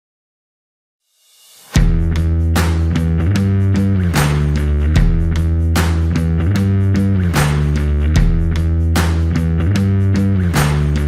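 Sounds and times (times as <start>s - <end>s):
heavy drum and bass hit: 1.4s - 11.0s
loud backing music: 1.8s - 11.0s.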